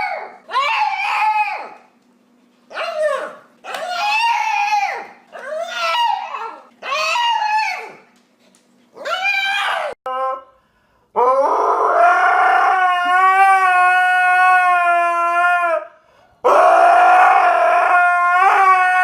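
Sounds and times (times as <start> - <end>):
dog howling: 0.0 - 1.9, 2.7 - 8.0, 9.0 - 10.5, 11.2 - 19.0.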